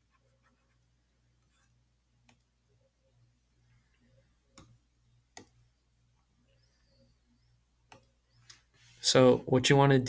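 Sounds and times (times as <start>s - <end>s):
faint low hum: 0.0s - 9.6s.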